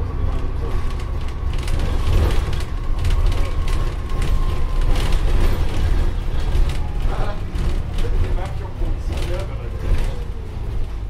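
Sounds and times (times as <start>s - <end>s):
bus engine drone: 0.0s - 11.0s
rattles and knocks of bus body: 0.0s - 11.0s.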